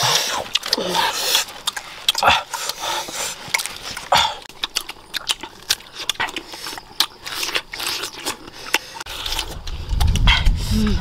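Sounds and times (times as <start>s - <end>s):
mango being bitten and chewed: 0.0s - 11.0s.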